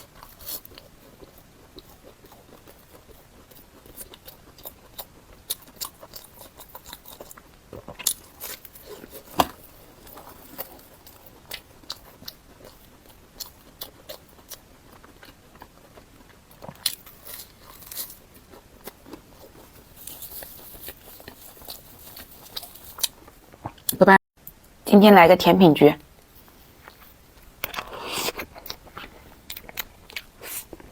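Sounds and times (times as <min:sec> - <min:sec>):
person chewing crunchy food: 0:00.0 - 0:24.0, 0:26.2 - 0:30.9.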